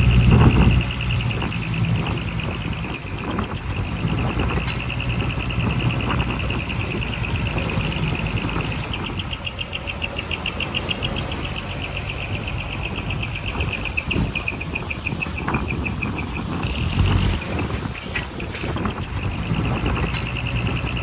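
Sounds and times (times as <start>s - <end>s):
heavy machinery rumble: 0.0s - 21.0s
insects chirping: 0.0s - 21.0s.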